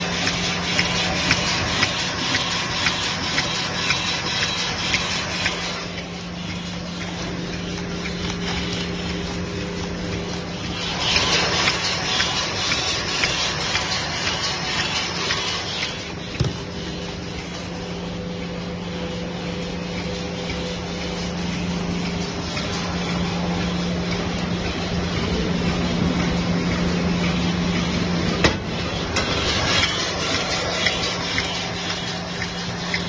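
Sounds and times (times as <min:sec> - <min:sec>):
machine humming rhythmically: 0:00.0 - 0:33.0.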